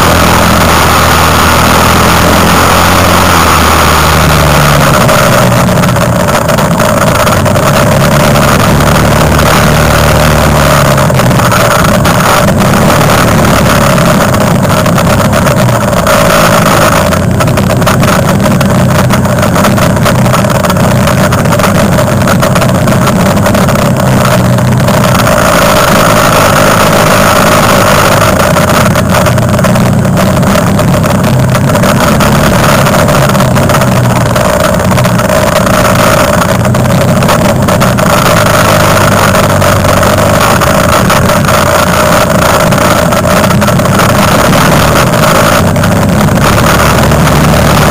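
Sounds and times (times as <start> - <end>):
quad bike engine droning: 0.0 - 47.9.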